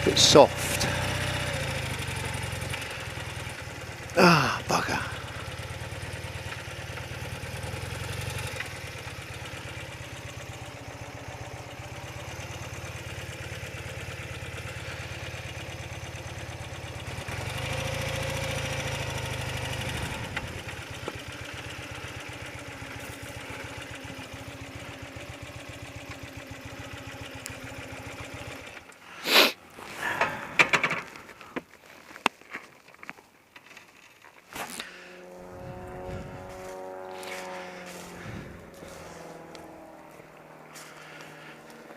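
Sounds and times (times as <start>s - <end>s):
motorcycle engine running: 0.0s - 31.7s, 33.7s - 41.9s.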